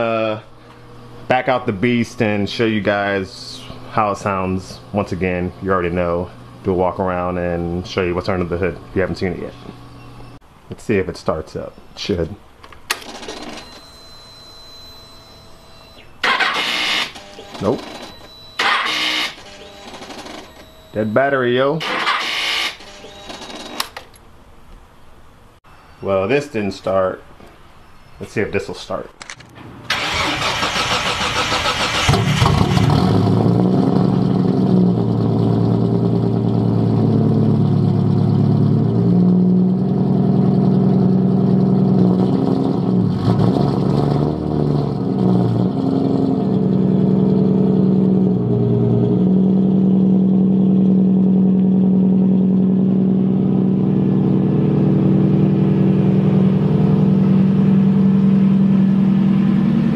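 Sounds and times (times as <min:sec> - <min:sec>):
car engine starting and idling: 0:00.0 - 0:10.6, 0:12.1 - 0:24.2, 0:29.3 - 0:59.9.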